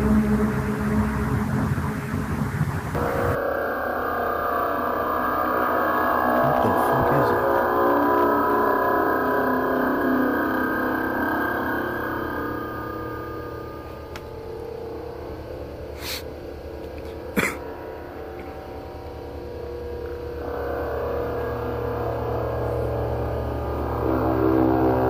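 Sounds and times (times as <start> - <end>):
low droning hum: 0.0 - 25.0
sustained tones: 0.0 - 25.0.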